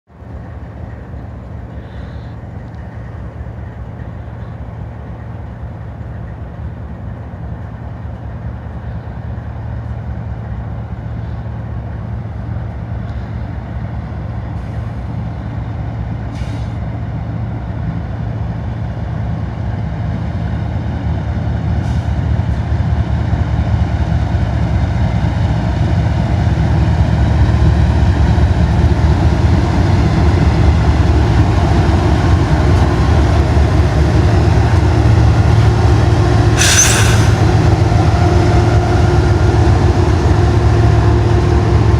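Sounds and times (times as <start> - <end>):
locomotive diesel engines droning: 0.1 - 41.9.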